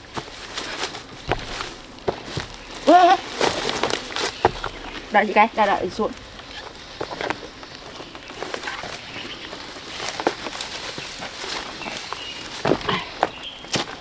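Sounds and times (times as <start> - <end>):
footsteps on rough ground: 0.0 - 14.0
rustling: 0.0 - 14.0.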